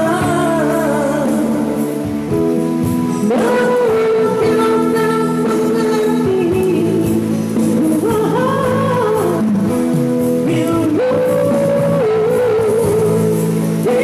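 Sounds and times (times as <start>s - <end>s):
guitar accompaniment: 0.0s - 14.0s
slow old pop song: 0.0s - 14.0s.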